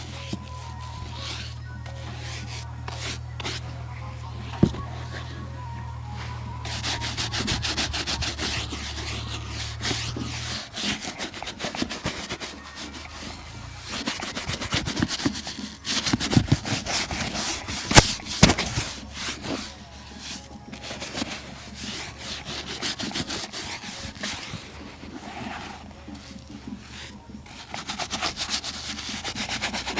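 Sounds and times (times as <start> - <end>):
leather shoe being brushed: 0.0 - 5.3, 6.2 - 29.9.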